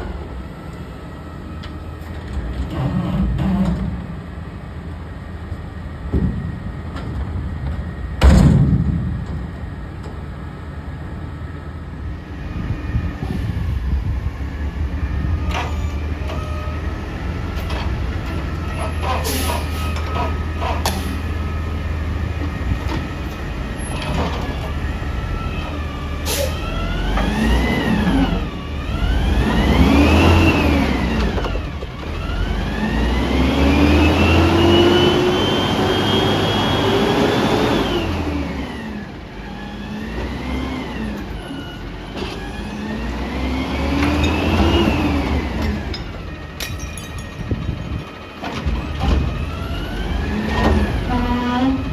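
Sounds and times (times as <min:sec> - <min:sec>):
truck engine idling and revving: 0:00.0 - 0:51.9.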